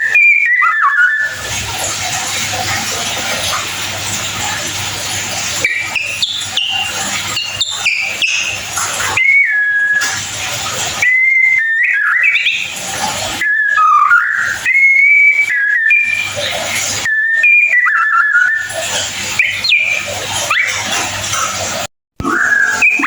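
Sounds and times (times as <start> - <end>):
bird whistled song: 0.0 - 3.6, 4.4 - 21.6, 22.2 - 23.0.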